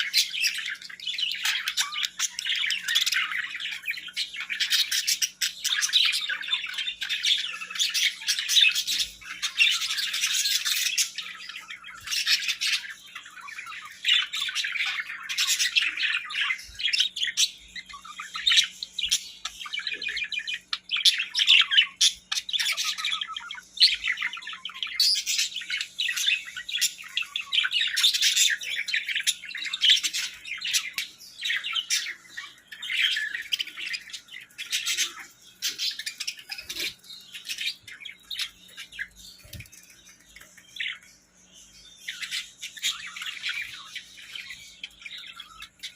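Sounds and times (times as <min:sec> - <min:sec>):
birds chirping and squawking: 0:00.0 - 0:45.9.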